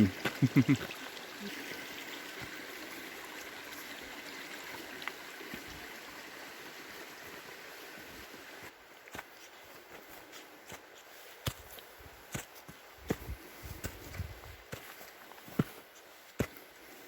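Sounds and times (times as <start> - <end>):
creek water rushing: 0.0 - 13.7.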